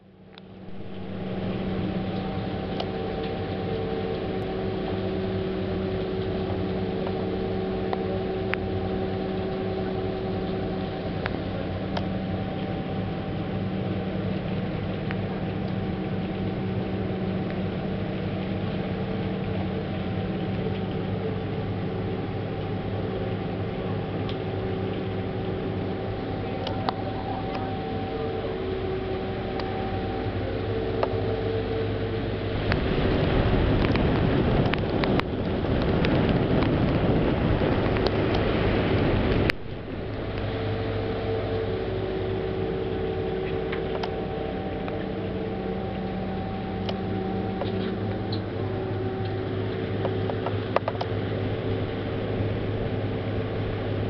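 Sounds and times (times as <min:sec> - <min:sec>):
boat engines droning: 0:00.0 - 0:54.0
rushing water noise: 0:00.2 - 0:54.0.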